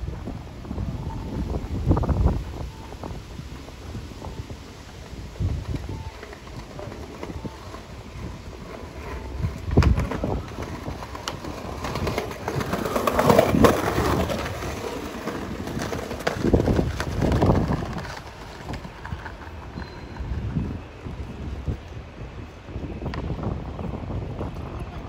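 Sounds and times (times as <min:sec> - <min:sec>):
skateboard wheels rolling on paving: 0:00.0 - 0:25.0.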